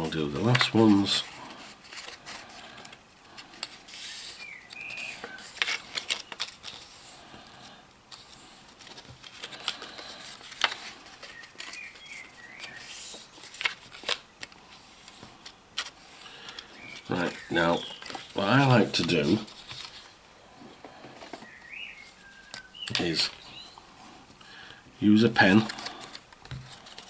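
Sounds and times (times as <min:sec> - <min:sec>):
paper rustling: 0:00.0 - 0:20.2, 0:25.3 - 0:27.0
card creases crackling: 0:00.1 - 0:20.2, 0:20.9 - 0:23.8, 0:24.4 - 0:27.0.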